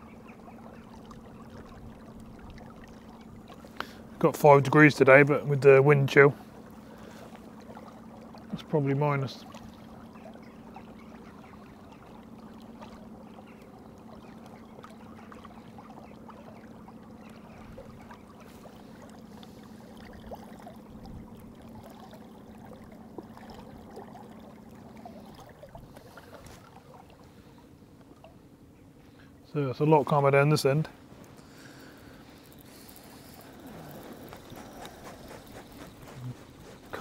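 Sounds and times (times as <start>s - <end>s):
water splashing: 0.0s - 28.6s, 30.2s - 37.0s
boat motor hum: 0.0s - 37.0s.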